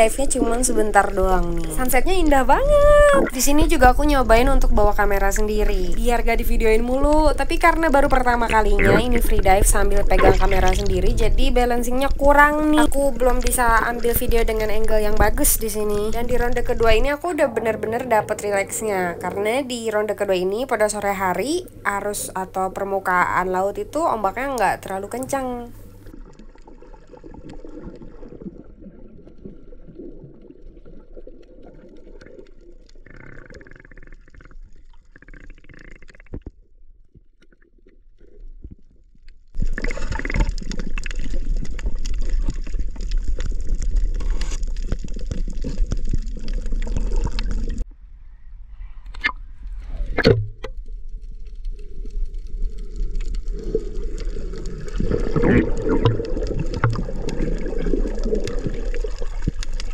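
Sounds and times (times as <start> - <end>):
water sloshing and gurgling: 0.0 - 22.0, 24.0 - 47.9, 48.9 - 59.9.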